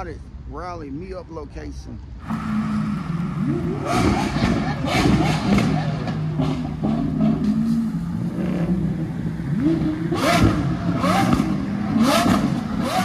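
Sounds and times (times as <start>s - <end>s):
car engine idling and revving: 1.6s - 13.0s.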